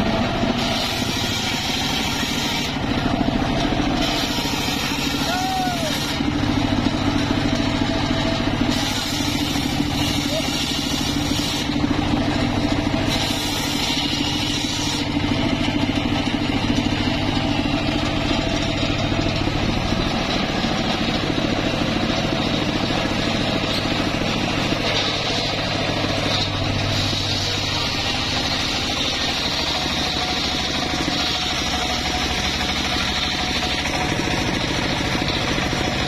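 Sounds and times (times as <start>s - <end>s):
sawmill engine and blade running: 0.0s - 36.0s.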